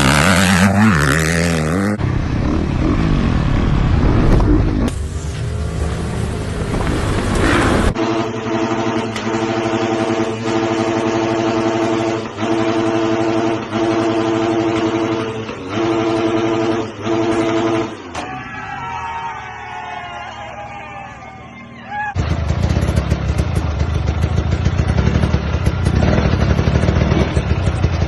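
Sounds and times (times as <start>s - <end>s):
dirt bike engine at high revs: 0.0s - 18.2s, 22.2s - 28.0s.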